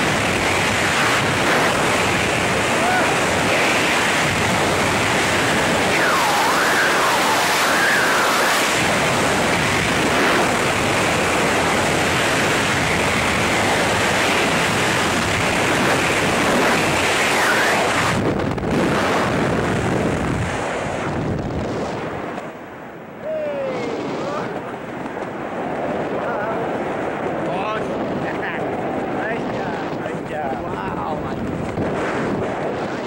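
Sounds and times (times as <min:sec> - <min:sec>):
freefall wind buffeting microphone: 0:00.0 - 0:33.0.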